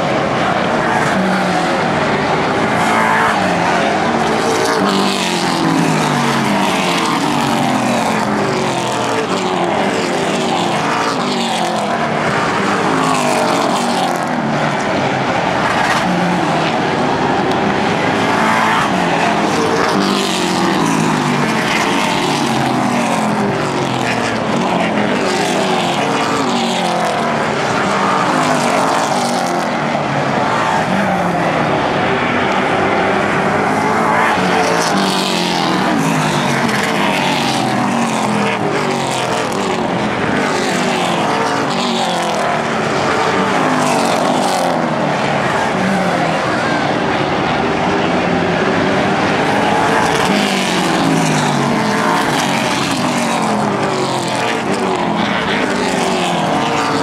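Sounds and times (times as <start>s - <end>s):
race cars passing by: 0.0s - 57.0s
roar of race car engines: 0.0s - 57.0s.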